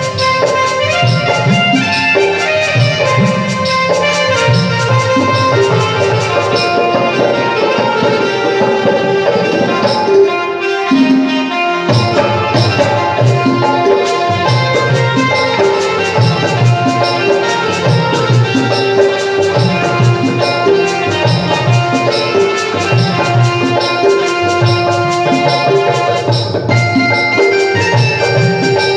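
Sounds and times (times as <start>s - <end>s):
fast steady drum rhythm: 0.0s - 28.9s
sustained instrumental melody: 0.0s - 28.9s.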